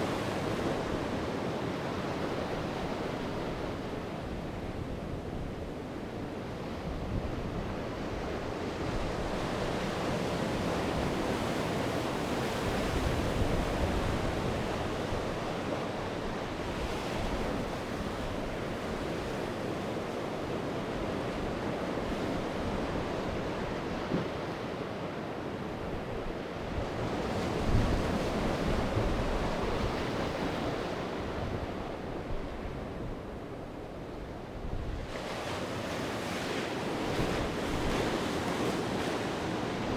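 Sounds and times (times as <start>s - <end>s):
sea waves breaking on shore: 5.7s - 39.9s.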